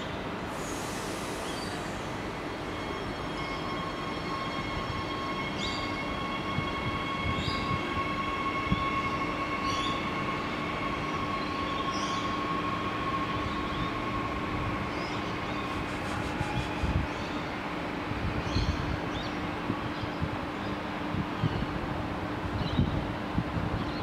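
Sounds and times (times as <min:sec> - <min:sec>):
electric train whine: 0:00.0 - 0:24.0
wheels rumbling on rail: 0:00.0 - 0:24.0.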